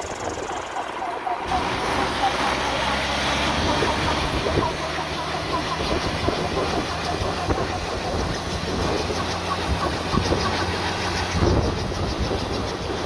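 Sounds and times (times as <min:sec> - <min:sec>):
air-cooled engine running: 0:00.0 - 0:13.0.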